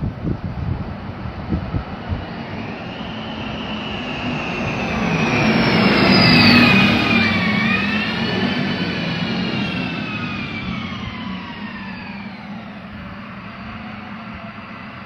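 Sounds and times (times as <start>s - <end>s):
high whine dropping in pitch: 0.0s - 15.0s
machine rushing past: 1.3s - 15.0s.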